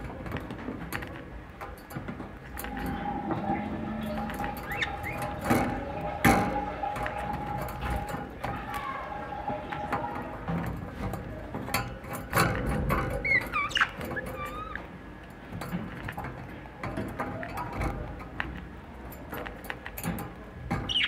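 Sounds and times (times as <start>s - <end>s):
budgerigar clicking and rustling: 0.0s - 21.0s.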